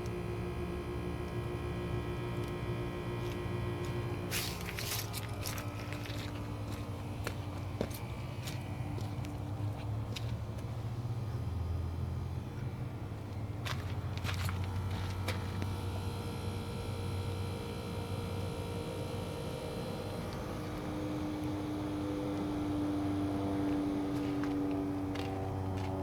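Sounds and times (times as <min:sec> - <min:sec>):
condensing units humming: 0:00.0 - 0:26.0.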